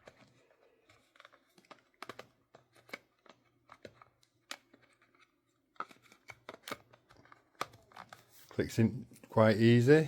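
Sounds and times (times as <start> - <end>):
plastic parts clicking: 0.0 - 8.2.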